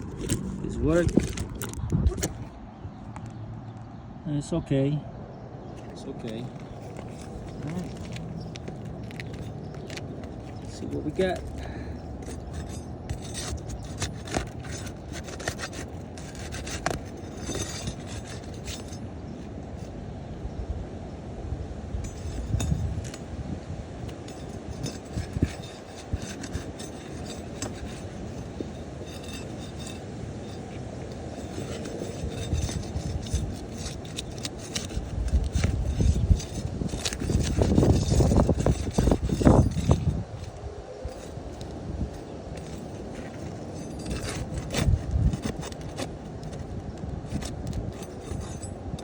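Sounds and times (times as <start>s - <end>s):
hand tools on roof shingles: 5.8s - 19.9s, 22.0s - 49.0s.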